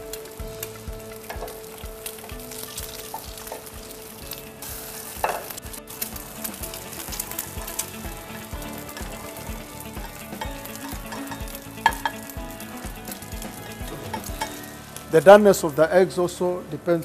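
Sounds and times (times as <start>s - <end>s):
egg sizzling in frying pan: 0.0s - 15.8s.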